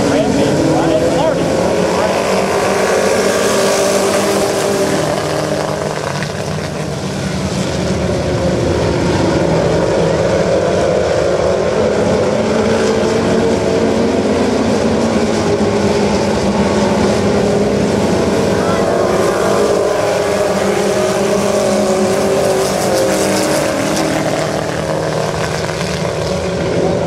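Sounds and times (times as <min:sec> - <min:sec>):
race car engines: 0:00.0 - 0:27.0.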